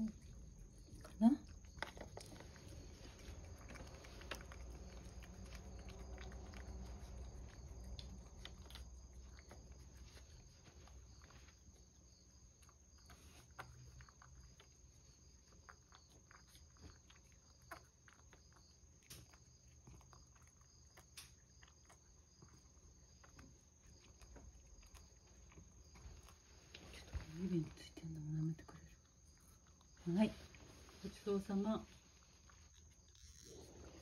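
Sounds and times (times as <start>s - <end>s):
cat licking and lapping: 0.0s - 31.4s.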